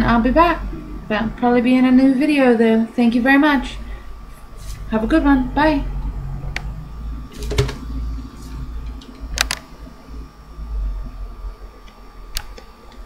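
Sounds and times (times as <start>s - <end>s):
low steady rumble: 0.0s - 11.9s.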